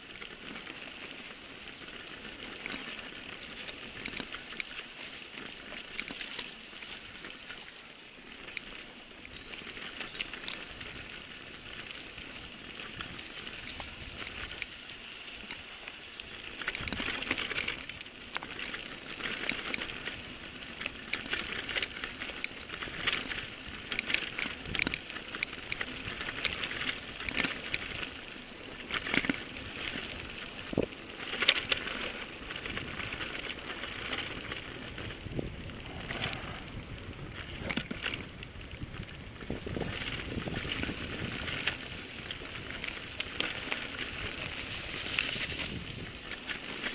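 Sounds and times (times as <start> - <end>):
bike clicks and rattles: 0.0 - 46.9
bike tyres crunching on dirt: 0.0 - 46.9.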